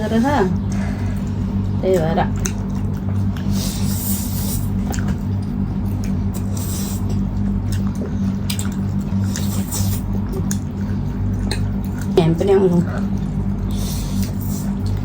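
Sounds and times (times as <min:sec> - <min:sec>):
people chewing and slurping: 0:00.0 - 0:15.0
steady low hum: 0:00.0 - 0:15.0.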